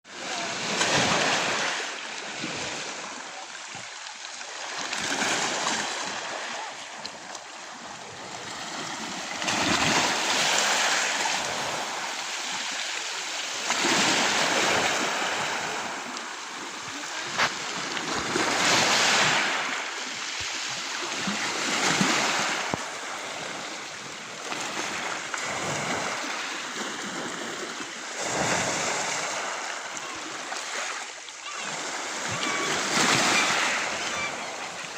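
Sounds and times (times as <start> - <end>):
sea waves breaking on shore: 0.1 - 34.9.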